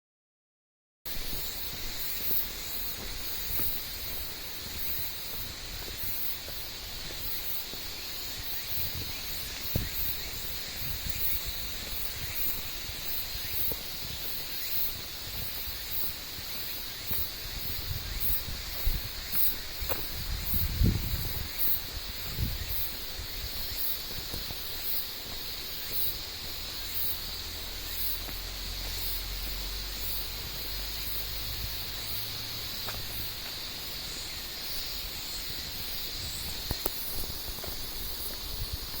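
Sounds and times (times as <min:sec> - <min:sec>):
insects singing: 0:01.1 - 0:39.0
pulsing shrill insect call: 0:01.2 - 0:39.0.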